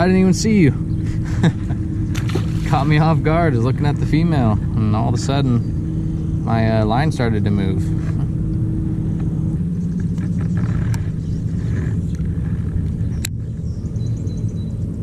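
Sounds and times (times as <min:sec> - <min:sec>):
faint low hum: 0:00.0 - 0:15.0
steady low rumble: 0:00.0 - 0:15.0.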